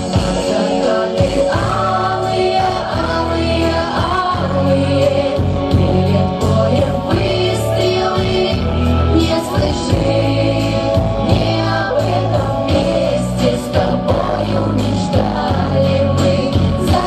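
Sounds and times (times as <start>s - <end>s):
instrumental accompaniment with beat: 0.0s - 17.0s
women singing: 0.0s - 17.0s.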